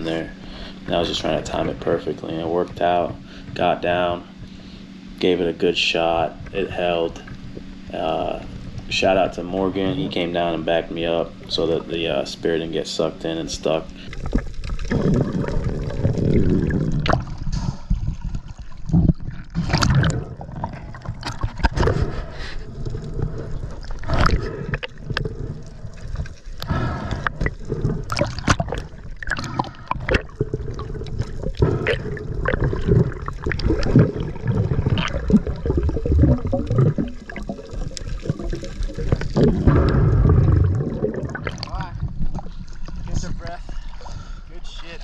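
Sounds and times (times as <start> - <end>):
muffled underwater gurgling: 0.0 - 45.0.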